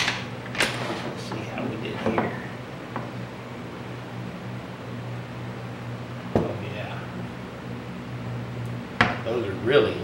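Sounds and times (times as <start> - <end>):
fan humming and hissing: 0.0 - 10.0.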